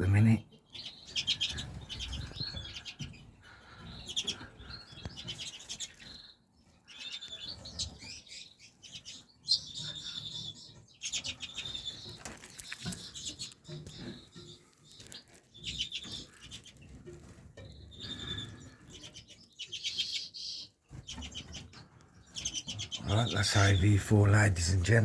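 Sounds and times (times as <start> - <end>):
finches chirping and twittering: 0.0 - 25.0.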